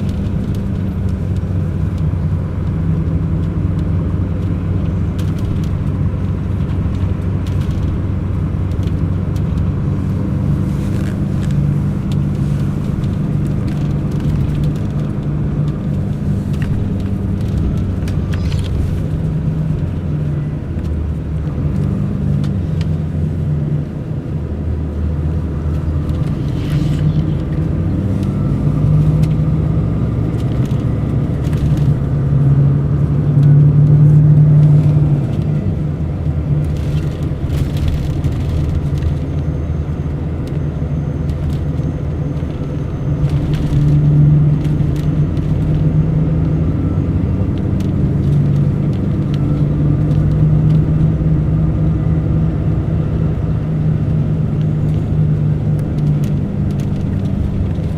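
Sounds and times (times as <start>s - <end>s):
diesel coach engine running: 0.0s - 57.9s.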